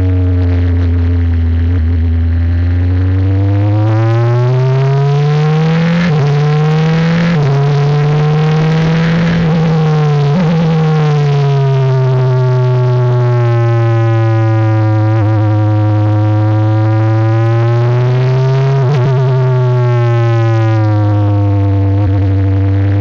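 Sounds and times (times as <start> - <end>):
race car engine: 0.0 - 23.0.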